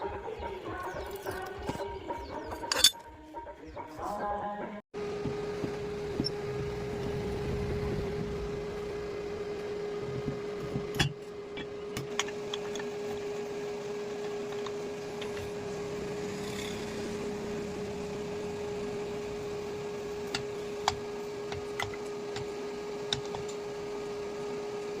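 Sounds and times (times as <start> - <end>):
electric motor humming: 5.0 - 25.0.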